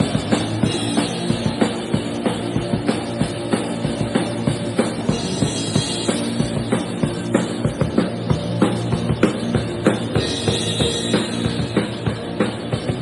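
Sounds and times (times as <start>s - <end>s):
band playing rock music: 0.0s - 13.0s
bass notes: 0.0s - 13.0s
drum kit beat: 0.0s - 13.0s.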